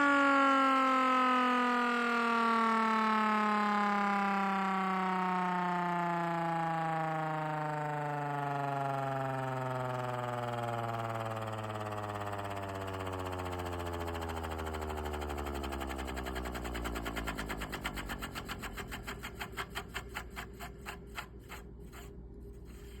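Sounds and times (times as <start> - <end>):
siren wail winding down: 0.0 - 19.5.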